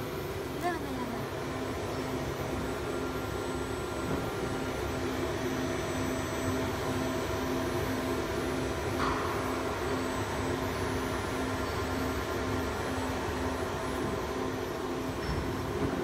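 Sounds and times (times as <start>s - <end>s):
cnc router whirring: 0.0s - 16.0s
cooling fans humming: 0.0s - 16.0s.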